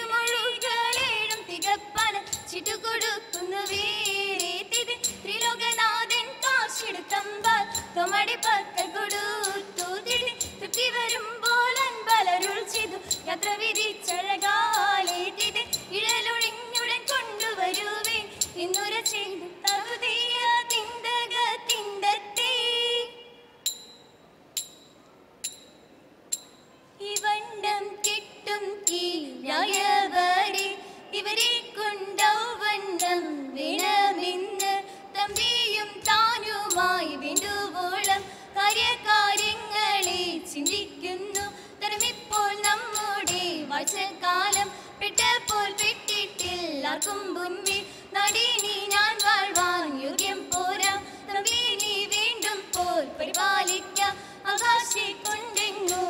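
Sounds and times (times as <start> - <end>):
women singing in unison: 0.0 - 23.2, 27.0 - 56.0.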